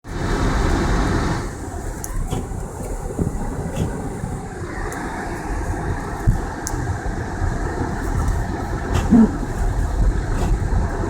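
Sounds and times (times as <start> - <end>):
car engine and tyre rumble: 0.0 - 11.0
tyre hiss on snow: 0.1 - 11.0.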